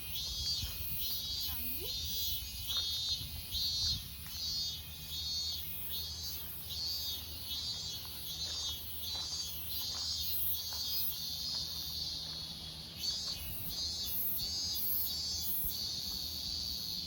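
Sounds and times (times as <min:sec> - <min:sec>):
insects buzzing in pulses: 0:00.0 - 0:17.0.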